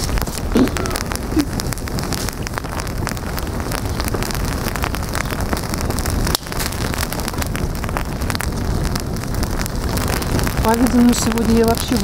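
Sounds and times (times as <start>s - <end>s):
campfire crackling and snapping: 0.0s - 12.0s
wind buffeting microphone: 0.0s - 12.0s.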